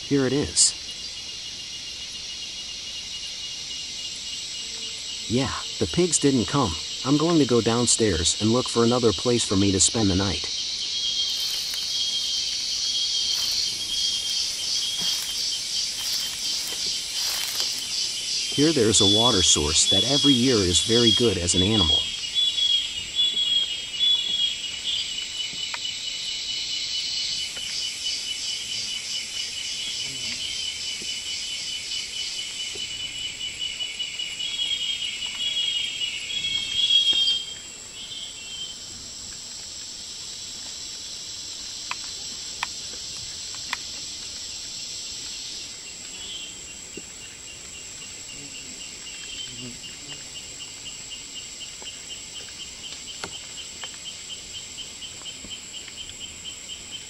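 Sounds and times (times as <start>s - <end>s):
insects buzzing and trilling: 0.0s - 57.0s
rapidly pulsing insect call: 0.0s - 57.0s.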